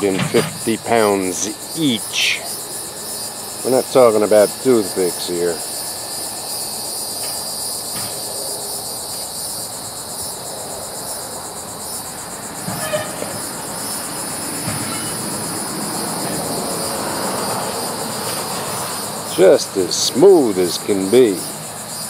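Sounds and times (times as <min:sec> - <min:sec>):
insects buzzing: 0:00.0 - 0:22.0
truck engine and hydraulics: 0:00.0 - 0:22.0.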